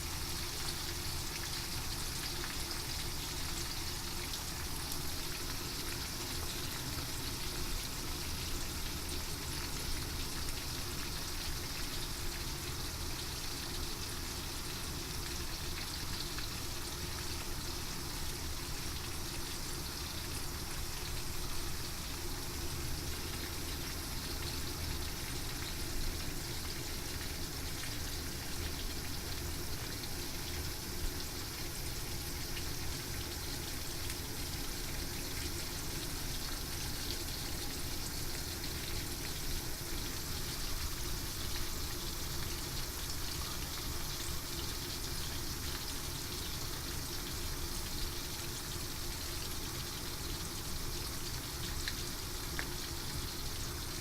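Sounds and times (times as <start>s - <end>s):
fish sizzling in hot oil: 0.0s - 54.0s.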